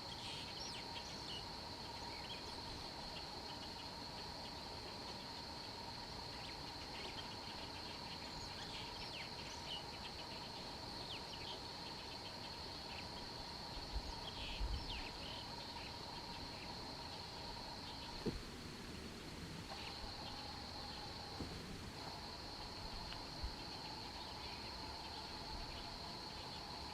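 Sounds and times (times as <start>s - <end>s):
faint low hum: 0.0s - 26.9s
insect drone: 0.0s - 26.9s.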